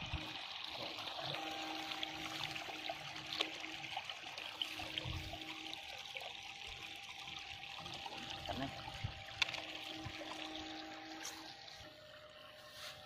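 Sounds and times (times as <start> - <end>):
faint steady hum: 0.0 - 13.0
light water splashes: 0.0 - 13.0
shallow water trickling and lapping: 0.0 - 13.0.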